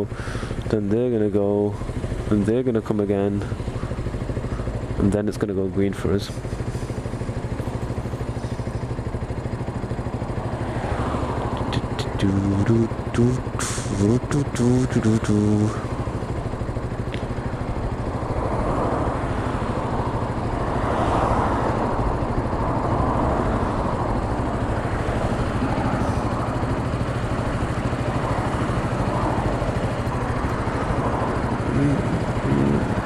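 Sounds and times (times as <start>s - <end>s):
motorcycle engine idling: 0.0s - 33.0s
road traffic passing: 0.0s - 33.0s.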